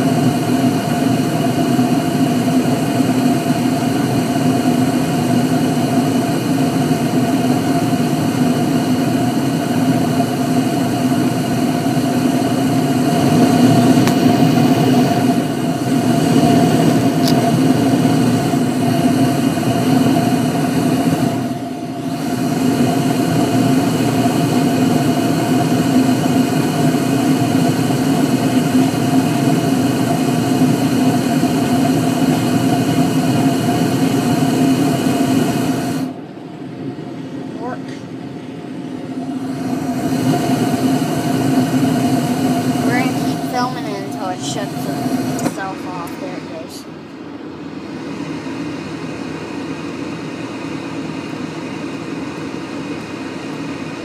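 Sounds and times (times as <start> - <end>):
furnace burners and fan humming: 0.0 - 54.0.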